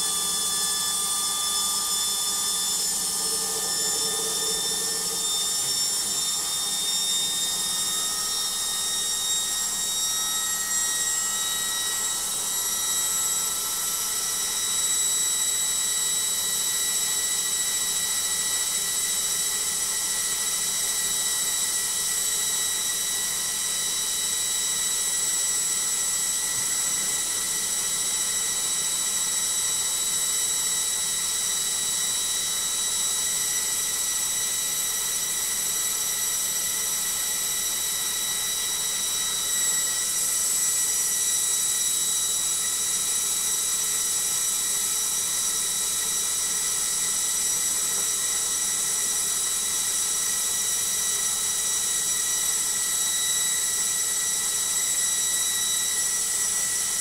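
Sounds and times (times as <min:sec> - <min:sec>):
spinning drum and motor hum: 0:00.0 - 0:54.1
washing machine spin whine: 0:00.0 - 0:57.0.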